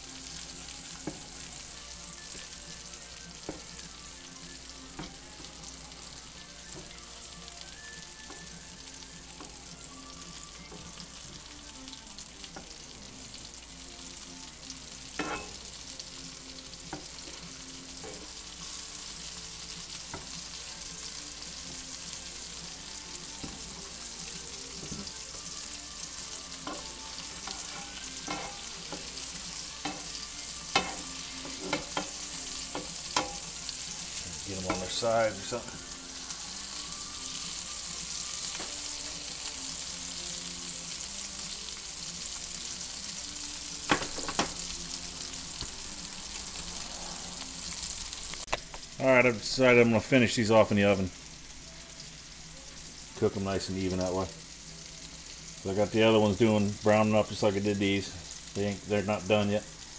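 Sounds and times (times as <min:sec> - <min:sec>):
meatballs sizzling in oil: 0:00.0 - 0:59.9.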